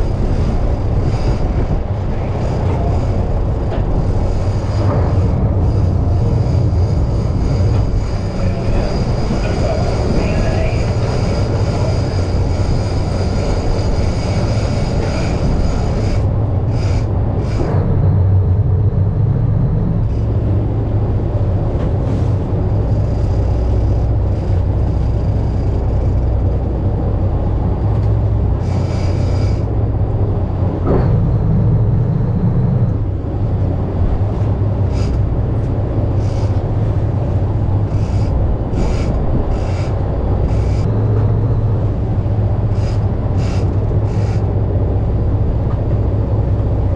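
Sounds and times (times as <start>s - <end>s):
boat engine rumble: 0.0s - 46.9s
wind noise: 0.0s - 46.9s.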